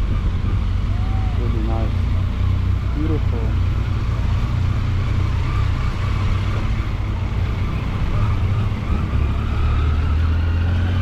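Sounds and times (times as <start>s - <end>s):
motorcycle engine cruising: 0.0s - 11.0s
rushing wind noise: 0.0s - 11.0s.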